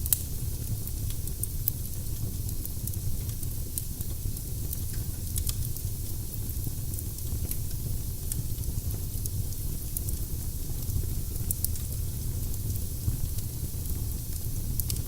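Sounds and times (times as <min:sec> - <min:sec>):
burning logs crackling and popping: 0:00.0 - 0:15.0.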